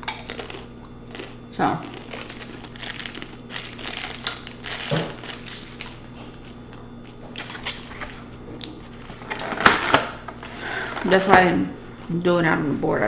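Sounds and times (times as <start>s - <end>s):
crunching and crinkling: 0.0s - 12.1s
low electrical hum: 0.0s - 13.0s.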